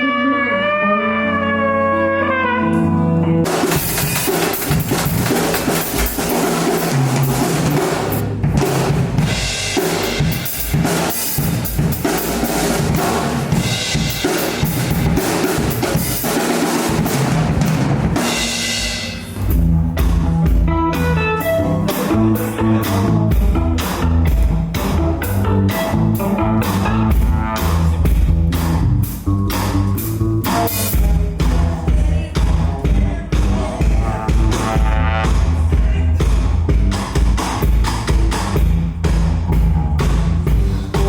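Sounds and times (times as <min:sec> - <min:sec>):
bass line: 0:00.0 - 0:41.0
drum kit playing: 0:00.0 - 0:41.0
rock band playing: 0:00.0 - 0:41.0.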